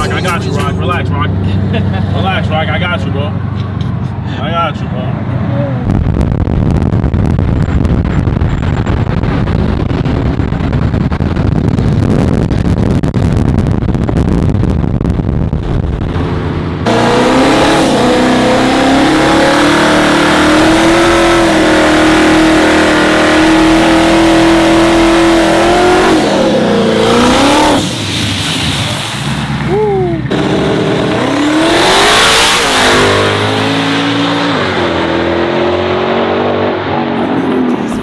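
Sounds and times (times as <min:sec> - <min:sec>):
car engine at high revs: 0:00.0 - 0:04.2, 0:05.0 - 0:38.0
car exhaust rumble: 0:00.0 - 0:38.0.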